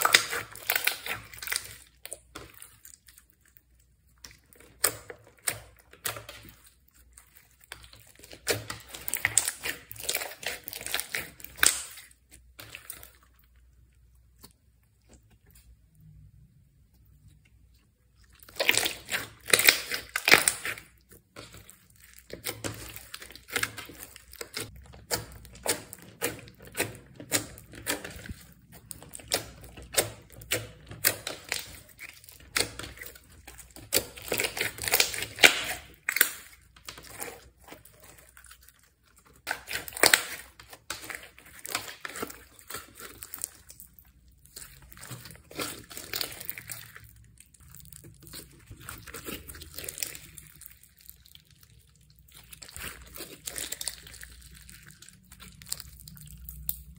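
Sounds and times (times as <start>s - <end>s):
slime squishing and crackling: 0.0s - 56.9s.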